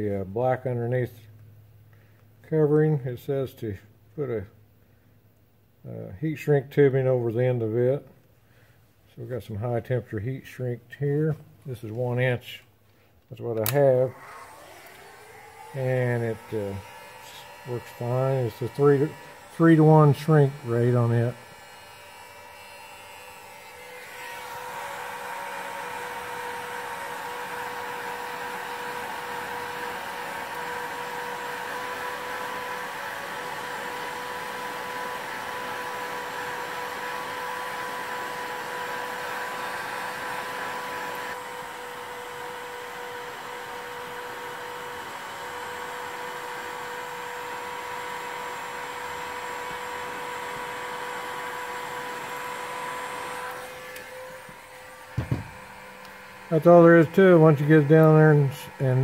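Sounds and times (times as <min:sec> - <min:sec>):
heat gun blowing and whining: 0:11.3 - 0:59.0.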